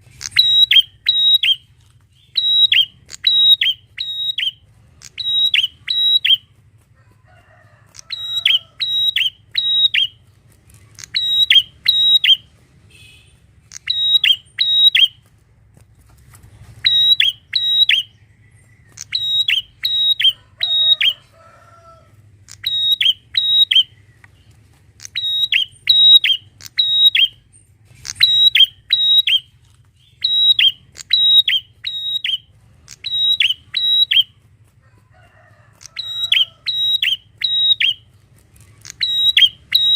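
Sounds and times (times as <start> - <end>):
bird chirping: 0.0 - 6.6, 8.0 - 15.3, 16.6 - 21.6, 22.4 - 34.5, 35.8 - 39.9.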